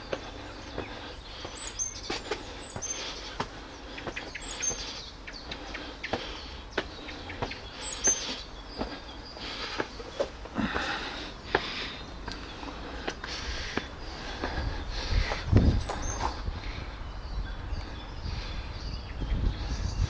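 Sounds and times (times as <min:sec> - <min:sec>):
footsteps on concrete stairs: 0:00.0 - 0:16.5
birds chirping: 0:00.0 - 0:20.0.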